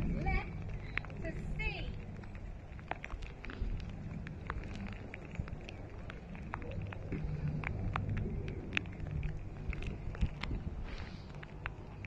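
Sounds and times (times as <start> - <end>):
faint irregular ticks and clicks: 0.0 - 12.0
wind buffeting the microphone: 0.0 - 12.0.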